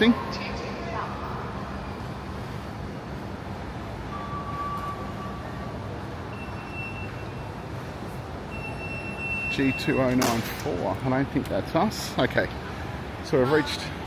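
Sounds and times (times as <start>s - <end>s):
echoing station concourse noise: 0.0s - 14.0s.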